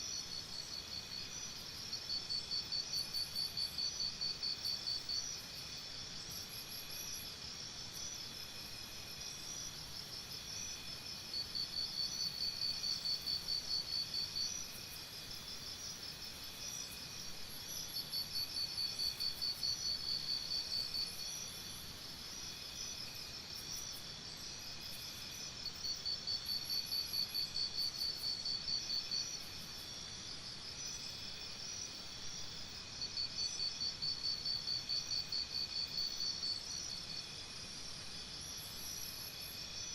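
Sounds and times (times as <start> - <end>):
rapidly pulsing insect trill: 0.0 - 39.9.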